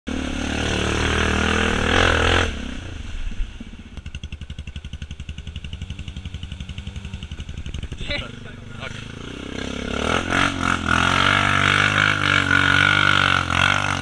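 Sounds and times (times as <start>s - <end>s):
off-road vehicle engine pulsing: 0.1s - 14.0s
quad bike engine revving: 0.1s - 14.0s.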